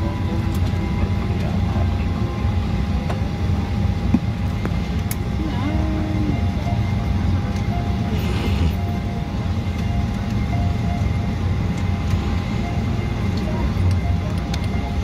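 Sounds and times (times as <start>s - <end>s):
airplane cabin engine rumble and whine: 0.0s - 15.0s.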